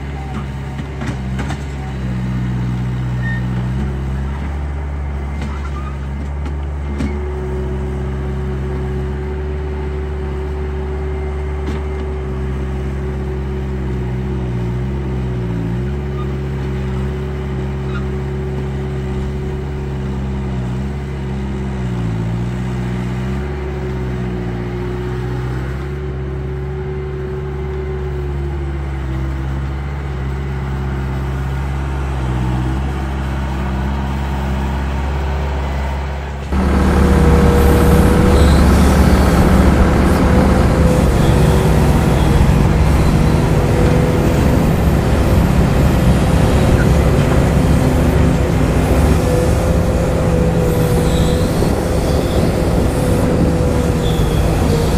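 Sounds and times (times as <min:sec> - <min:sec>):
heavy machine engine running: 0:00.0 - 0:54.9.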